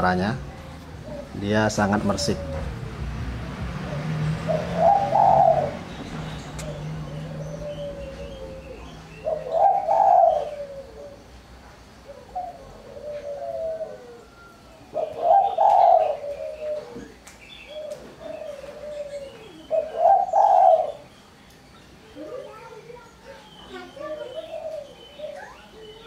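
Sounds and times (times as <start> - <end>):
dove cooing: 0.0 - 21.1, 22.0 - 26.0.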